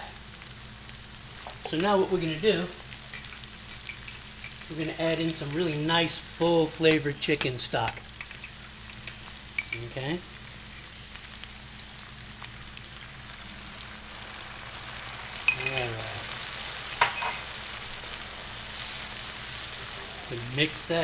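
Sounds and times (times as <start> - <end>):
sauce sizzling in a frying pan: 0.0 - 21.0.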